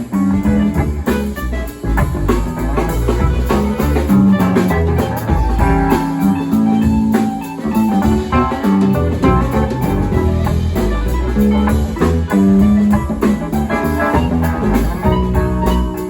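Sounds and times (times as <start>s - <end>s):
bass: 0.0s - 16.0s
drums: 0.0s - 16.0s
guitar: 0.0s - 16.0s.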